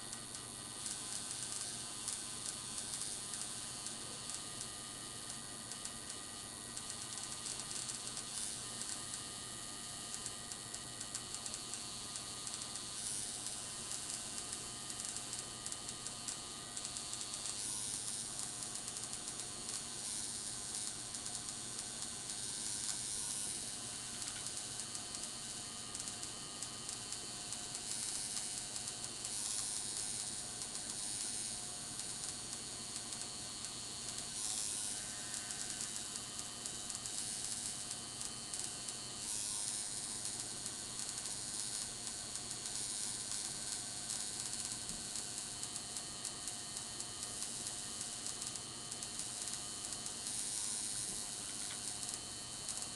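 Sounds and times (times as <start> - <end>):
tattoo machine buzzing: 0.0 - 52.9.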